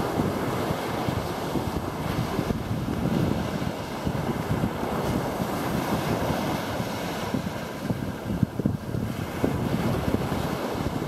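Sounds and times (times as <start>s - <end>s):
small waves washing on shore: 0.0s - 11.0s
wind buffeting microphone: 0.0s - 11.0s.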